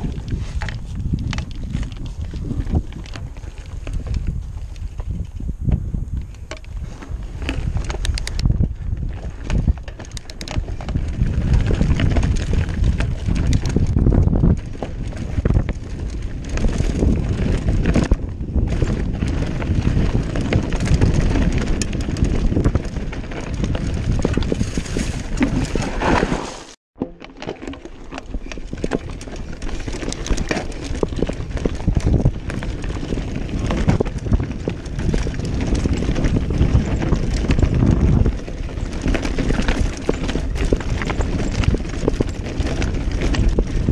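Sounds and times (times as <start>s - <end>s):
bike rattling: 0.0s - 43.9s
bike tyres crunching over stones: 0.0s - 43.9s.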